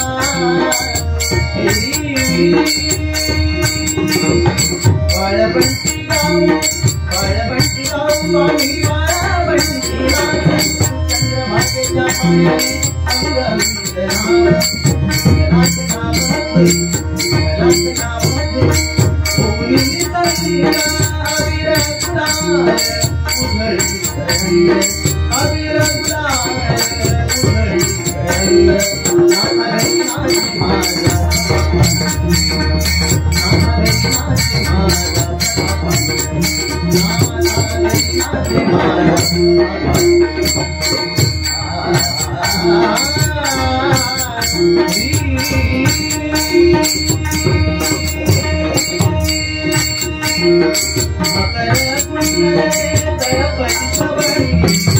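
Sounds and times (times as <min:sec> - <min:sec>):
hand cymbals clashing: 0:00.0 - 0:54.9
hand drums playing: 0:00.0 - 0:54.9
held melodic tones: 0:00.0 - 0:54.9.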